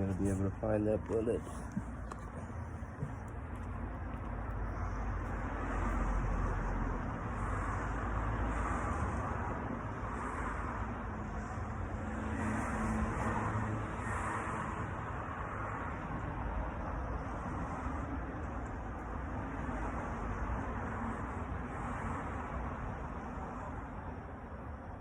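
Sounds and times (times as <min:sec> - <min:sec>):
outdoor background rumble and hiss: 0:00.0 - 0:25.0.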